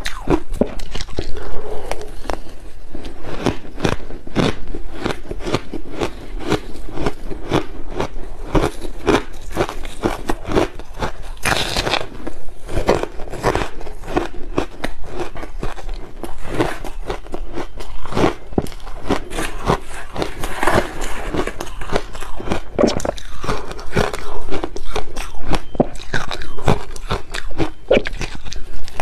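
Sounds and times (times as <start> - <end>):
ice crunching between teeth: 0.0 - 29.0.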